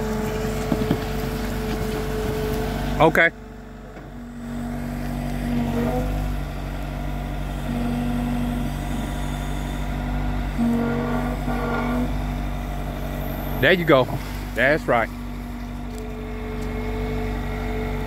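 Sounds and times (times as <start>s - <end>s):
higher machine hum: 0.0s - 18.0s
loader diesel engine running: 0.0s - 18.0s.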